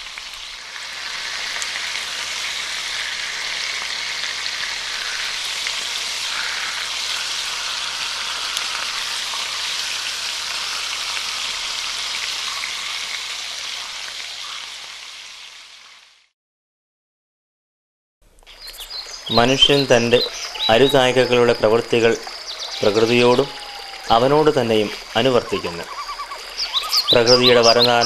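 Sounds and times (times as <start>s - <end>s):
rushing hiss of water: 0.0s - 16.3s, 18.6s - 28.0s.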